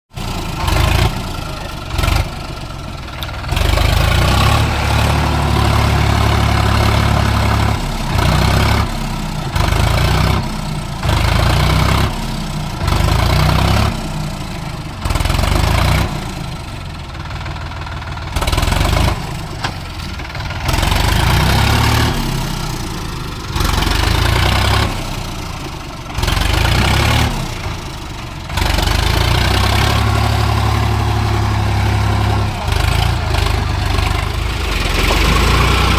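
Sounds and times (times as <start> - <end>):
tractor diesel engine revving: 0.1 - 35.9.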